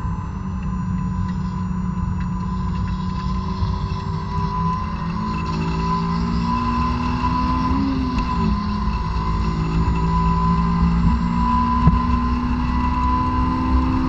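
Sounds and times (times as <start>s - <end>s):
car engine revving at full throttle: 0.0s - 14.0s.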